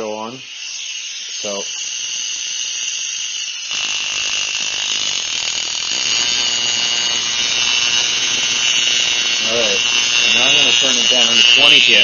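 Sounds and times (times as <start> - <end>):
air compressor running: 0.7 - 12.0.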